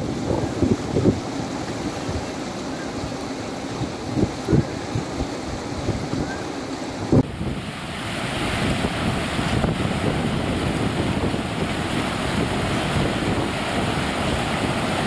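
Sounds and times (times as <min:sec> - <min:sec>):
floodwater pouring over weir: 0:00.0 - 0:15.0
wind buffeting microphone: 0:00.0 - 0:15.0.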